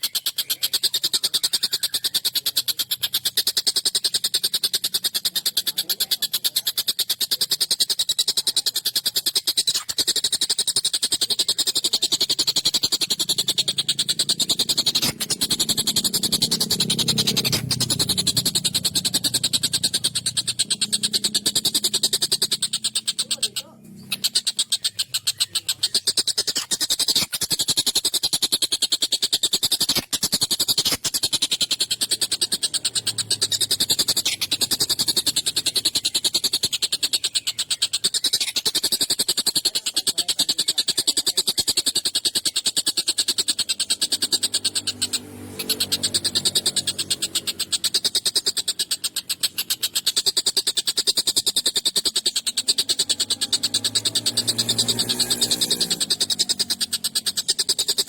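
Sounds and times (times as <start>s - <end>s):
kingfisher harsh chattering call: 0.0s - 58.0s.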